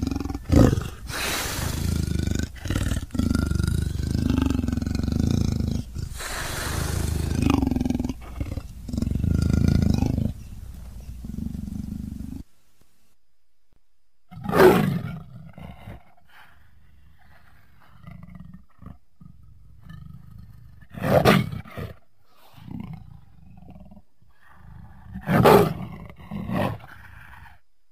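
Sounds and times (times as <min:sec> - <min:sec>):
leopard roaring and growling: 0:00.0 - 0:12.5, 0:14.3 - 0:27.6.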